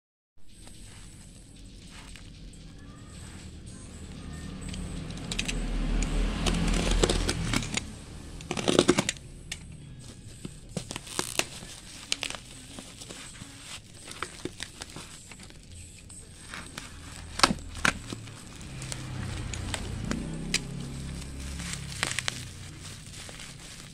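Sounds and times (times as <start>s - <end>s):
plastic wrapping crinkling: 4.1s - 23.9s.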